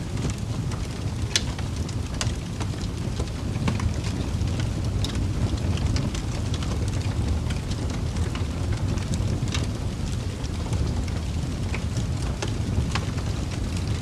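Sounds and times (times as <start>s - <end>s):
burning logs crackling: 0.0s - 14.0s
low rumble of flames: 0.0s - 14.0s.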